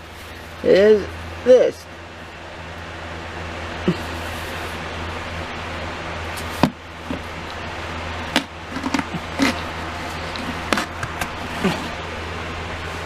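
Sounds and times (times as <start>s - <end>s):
background hiss and hum: 0.0s - 13.0s.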